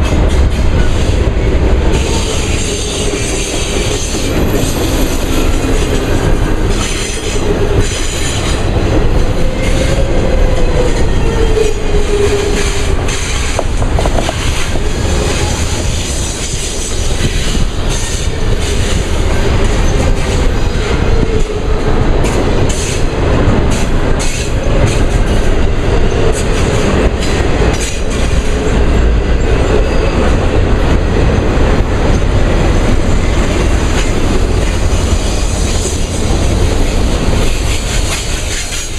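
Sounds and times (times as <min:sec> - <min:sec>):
train rumble: 0:00.0 - 0:38.9
train wheels clicking over rail joints: 0:00.0 - 0:38.9.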